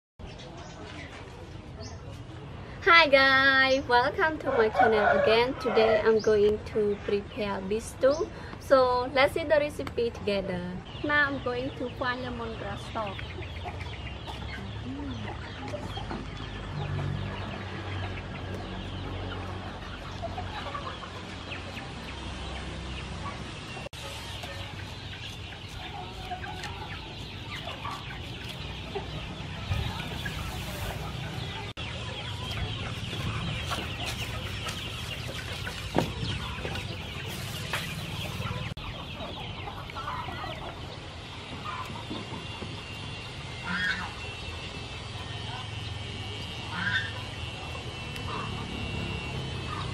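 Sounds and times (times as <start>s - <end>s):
chickens clucking: 0.2s - 2.8s, 3.6s - 49.9s.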